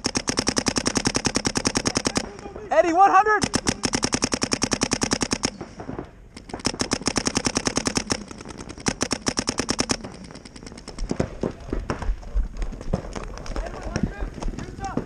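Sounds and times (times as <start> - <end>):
paintball marker firing rapidly: 0.0 - 2.5, 3.2 - 15.0.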